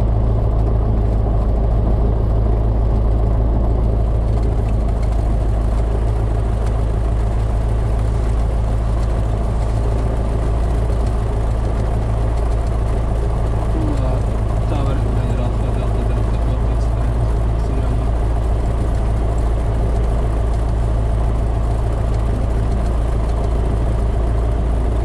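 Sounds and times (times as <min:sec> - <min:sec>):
propeller aircraft engine idling: 0:00.0 - 0:25.0.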